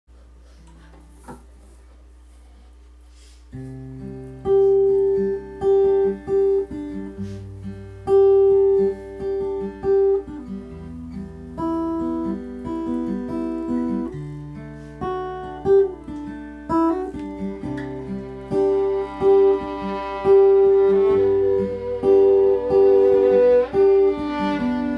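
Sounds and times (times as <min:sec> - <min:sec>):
acoustic guitar picking: 0:03.5 - 0:24.9.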